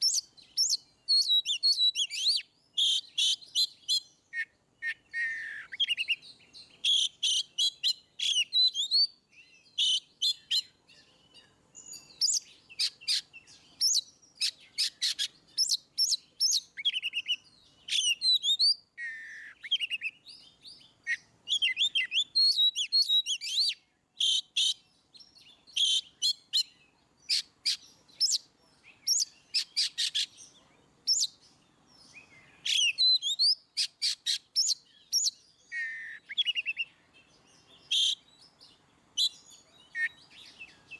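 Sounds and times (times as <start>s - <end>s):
songbird singing whistled phrases: 0.0s - 40.9s.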